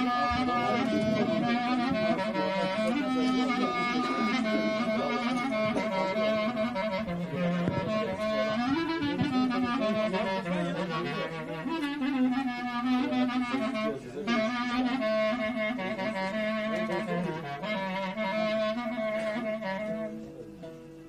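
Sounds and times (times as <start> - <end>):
clarinet melody: 0.0 - 21.0.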